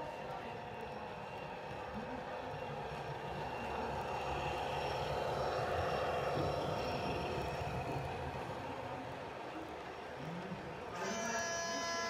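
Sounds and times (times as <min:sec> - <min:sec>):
model locomotive engine drone: 0:00.0 - 0:12.0
wheels rolling on track: 0:00.0 - 0:12.0.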